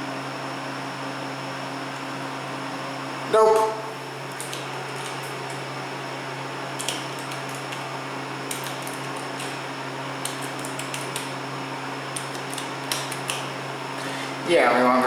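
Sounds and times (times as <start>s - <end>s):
ventilation fan hum: 0.0s - 15.0s.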